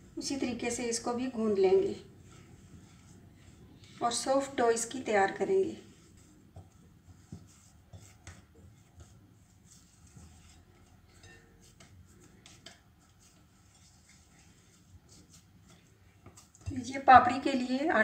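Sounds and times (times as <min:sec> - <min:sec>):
hands kneading dough: 0:00.0 - 0:18.0.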